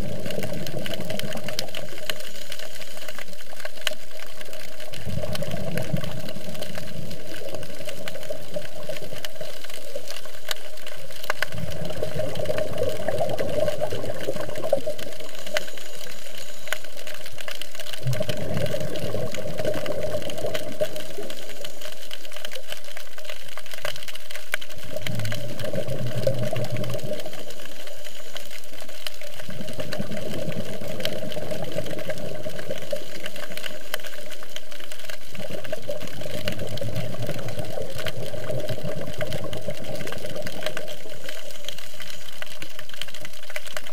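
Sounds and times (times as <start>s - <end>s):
fine crackle of clicks: 0.0s - 43.9s
regulator bubbles rumbling: 0.0s - 43.9s
steady underwater hiss: 0.0s - 43.9s.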